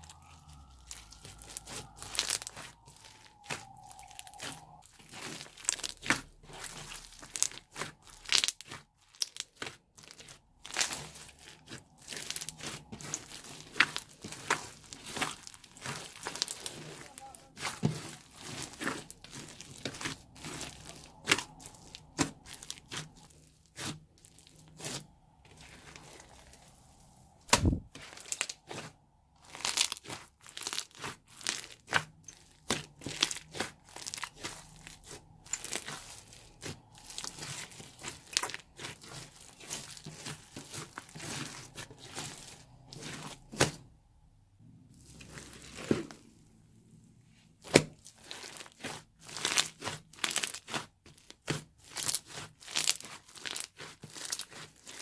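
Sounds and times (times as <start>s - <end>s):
slime crackling and popping: 0.0s - 43.9s, 44.9s - 46.7s, 47.6s - 55.0s.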